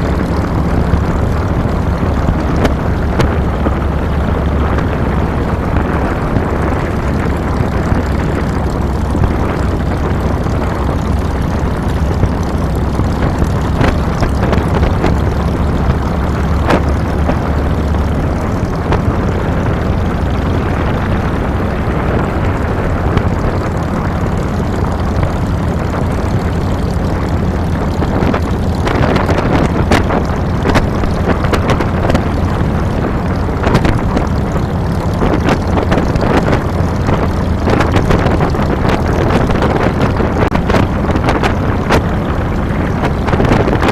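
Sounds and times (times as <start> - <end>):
motorcycle engine running: 0.0 - 43.9
wind and road noise: 0.0 - 43.9.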